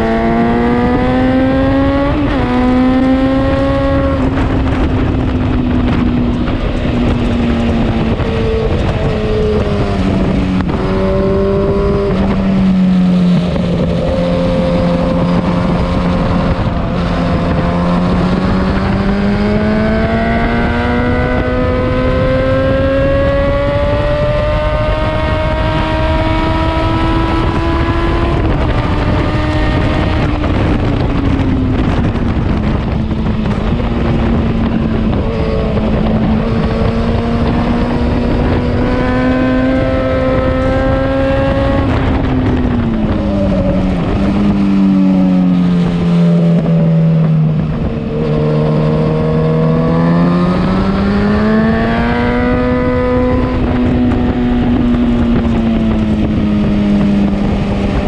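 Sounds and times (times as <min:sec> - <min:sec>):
motorcycle engine: 0:00.0 - 0:58.0
rush of wind: 0:00.0 - 0:58.0.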